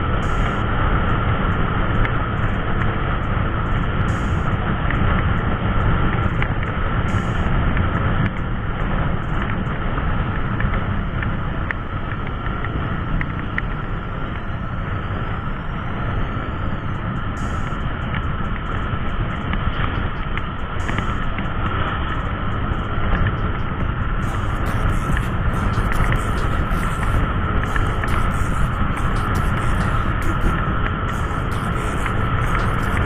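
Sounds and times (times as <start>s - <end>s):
wind rush on microphone: 0.0s - 33.0s.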